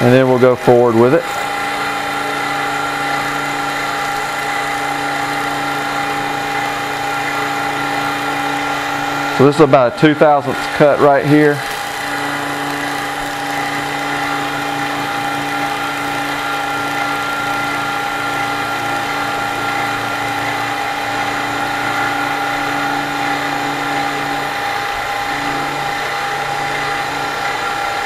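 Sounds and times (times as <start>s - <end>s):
end mill high whine: 0.0s - 28.0s
milling machine spindle humming: 0.0s - 28.0s.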